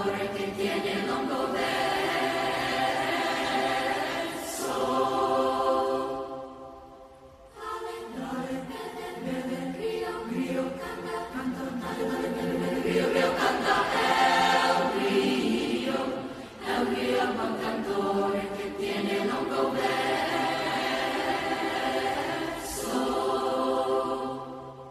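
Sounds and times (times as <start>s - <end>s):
youth choir singing: 0.0s - 24.9s.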